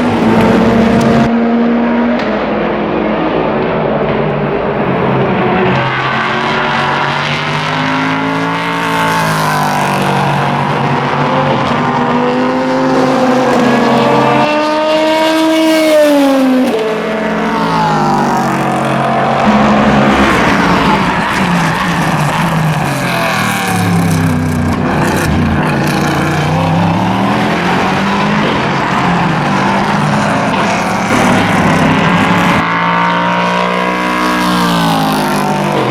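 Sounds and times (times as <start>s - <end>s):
race cars driving past: 0.0s - 35.9s.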